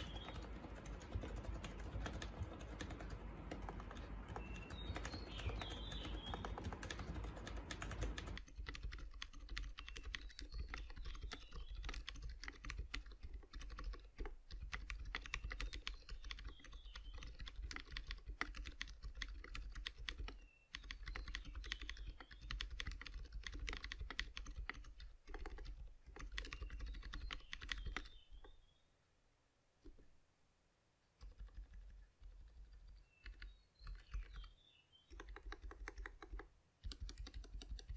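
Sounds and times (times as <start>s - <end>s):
fast typing on mechanical keyboard: 0.0s - 28.2s, 31.2s - 34.5s, 35.1s - 37.9s.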